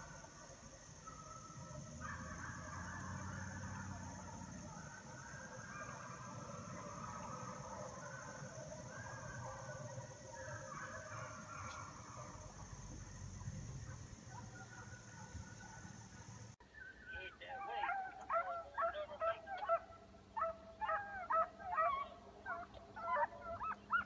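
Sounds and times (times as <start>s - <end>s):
hounds baying: 0.0s - 16.6s, 17.5s - 24.0s.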